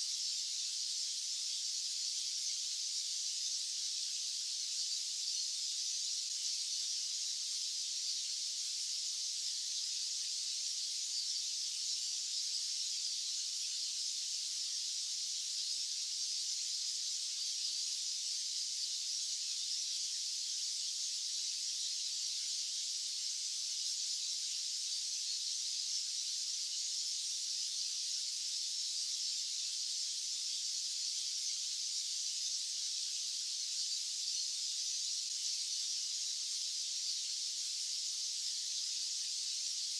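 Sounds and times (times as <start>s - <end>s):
high-pitched white noise hiss: 0.0s - 39.9s.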